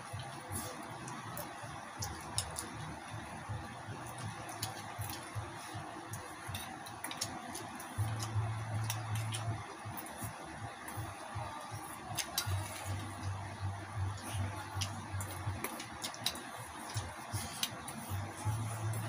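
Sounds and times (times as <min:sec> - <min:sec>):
chewing crispy food: 0:00.1 - 0:19.0.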